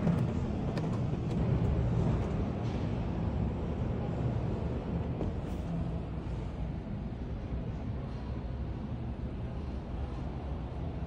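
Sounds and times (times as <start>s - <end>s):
indoor hall rumble: 0.0s - 11.0s.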